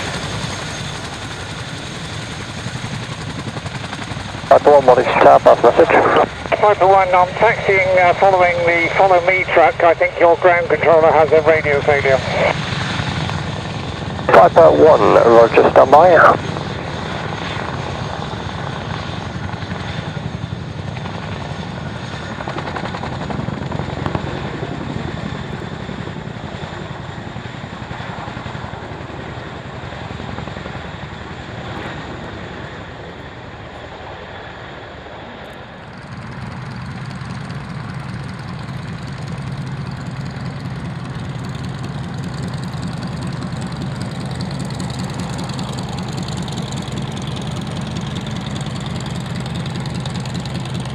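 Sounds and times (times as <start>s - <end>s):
aircraft engine running: 0.0s - 50.9s.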